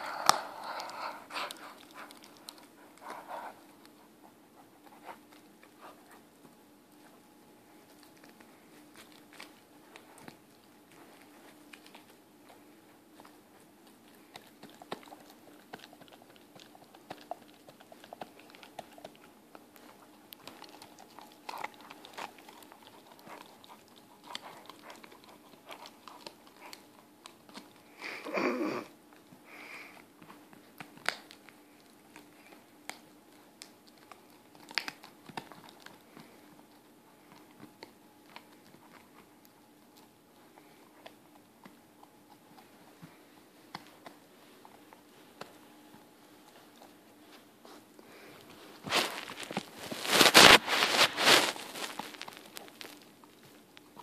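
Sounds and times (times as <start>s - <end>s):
dog crunching on a chew bone: 0.0s - 28.0s, 29.1s - 54.0s
faint steady hum: 0.0s - 54.0s.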